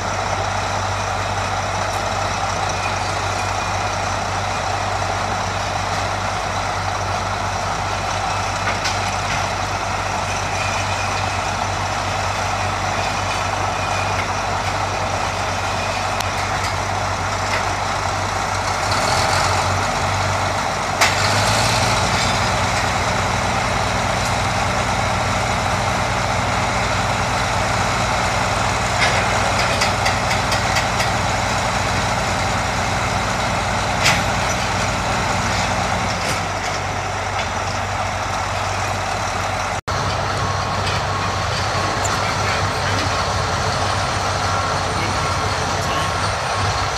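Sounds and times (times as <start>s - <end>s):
diesel engines running under load: 0.0s - 46.9s.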